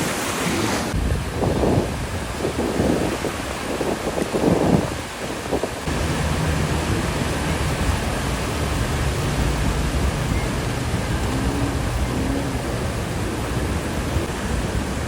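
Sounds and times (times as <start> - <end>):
sea waves breaking: 0.0 - 15.0
wind rumble on microphone: 0.5 - 15.0.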